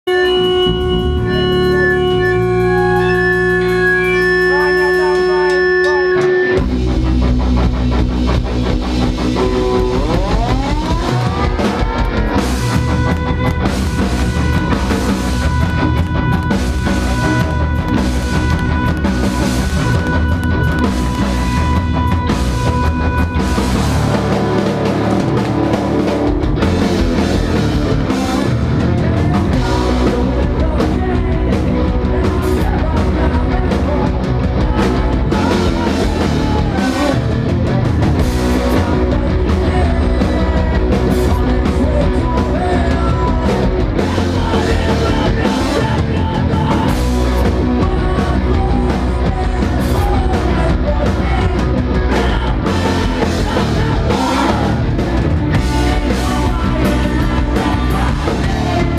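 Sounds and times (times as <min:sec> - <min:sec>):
rock band playing live: 0:00.0 - 0:58.9.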